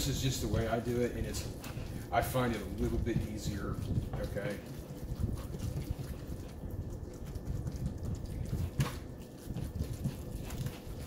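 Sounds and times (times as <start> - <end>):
spatula squishing and scraping fish: 0.0 - 11.0.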